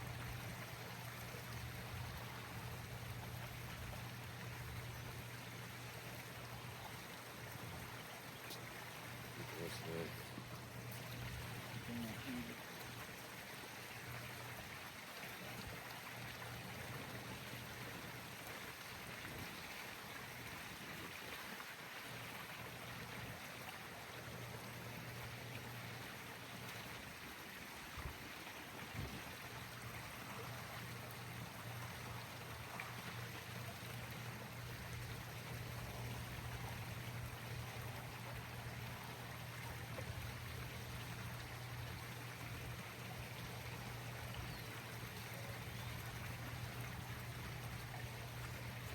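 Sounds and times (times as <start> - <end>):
running water: 0.0 - 48.9.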